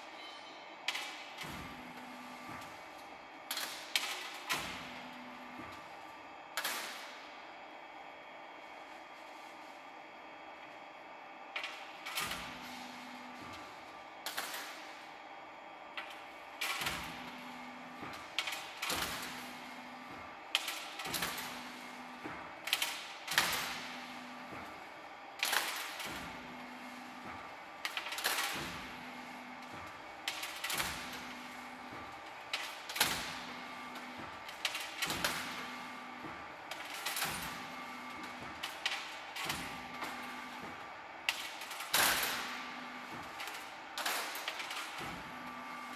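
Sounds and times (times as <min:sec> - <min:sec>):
machinery hum: 0:00.0 - 0:45.9.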